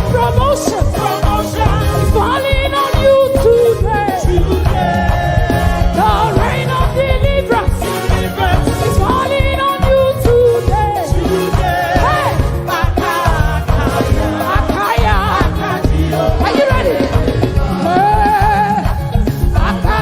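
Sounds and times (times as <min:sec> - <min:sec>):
band with bass and drums: 0:00.0 - 0:20.0
people singing gospel: 0:00.0 - 0:20.0.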